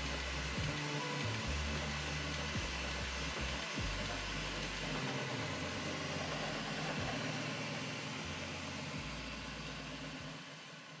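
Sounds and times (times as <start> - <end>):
fan hiss: 0.0 - 11.0
stepper motor hum: 0.0 - 11.0.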